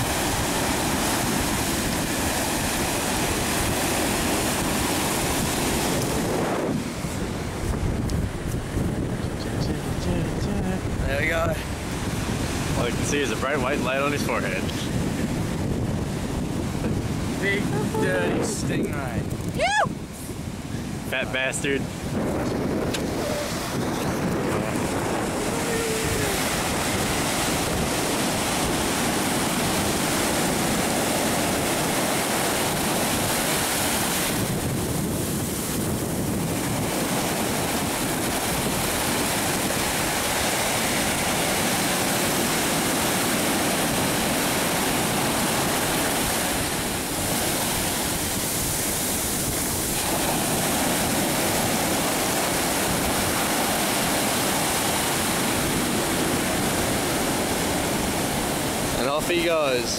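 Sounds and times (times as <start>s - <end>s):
surf breaking on beach: 0.0s - 59.9s.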